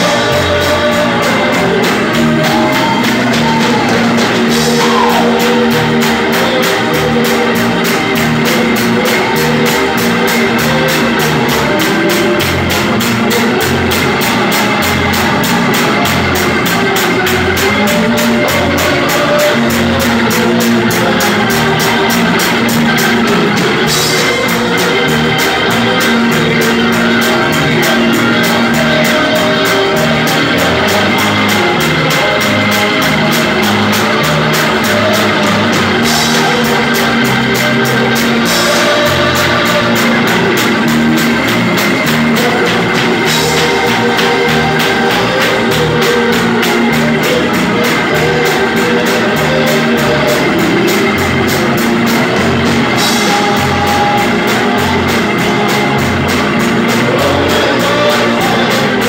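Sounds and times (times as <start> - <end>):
bass guitar: 0.0 - 59.0
drum kit: 0.0 - 59.0
electric organ: 0.0 - 59.0.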